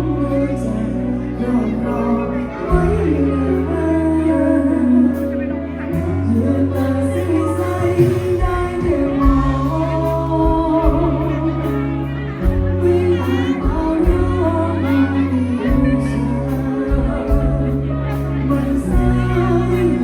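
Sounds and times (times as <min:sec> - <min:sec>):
held bass notes: 0:00.0 - 0:20.0
live band playing pop song: 0:00.0 - 0:20.0
person singing: 0:00.0 - 0:20.0.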